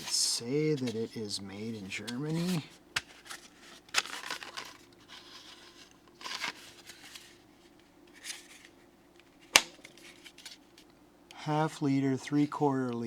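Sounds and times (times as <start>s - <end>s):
packaging rustling and crinkling: 0.0s - 10.9s
faint room hum: 0.0s - 13.0s.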